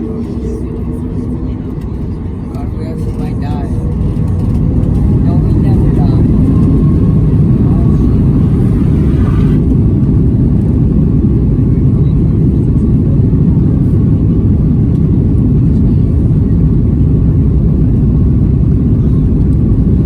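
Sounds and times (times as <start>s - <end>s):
jet engines during takeoff: 0.0s - 20.0s.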